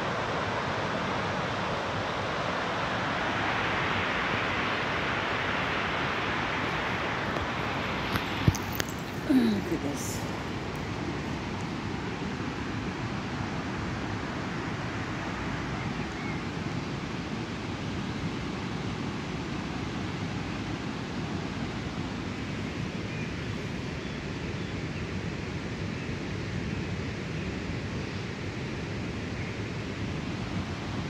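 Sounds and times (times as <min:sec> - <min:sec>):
open air rushing noise: 0:00.0 - 0:31.0.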